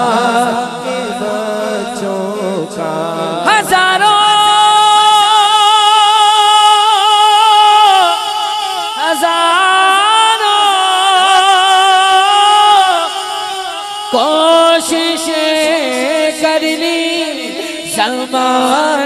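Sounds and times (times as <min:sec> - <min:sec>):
man singing devotional phrase: 0:00.0 - 0:19.0.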